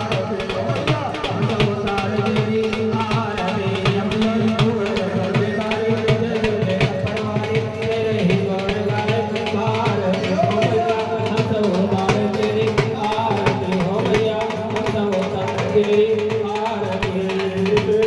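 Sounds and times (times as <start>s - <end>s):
fast hand-drum beats: 0.0s - 18.0s.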